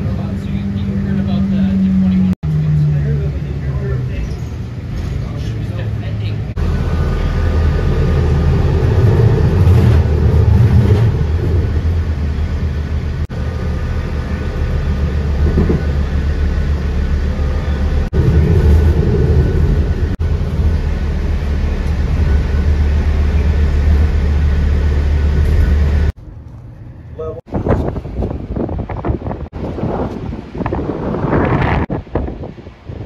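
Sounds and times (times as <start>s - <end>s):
vehicle rumble from inside: 0.0s - 33.0s.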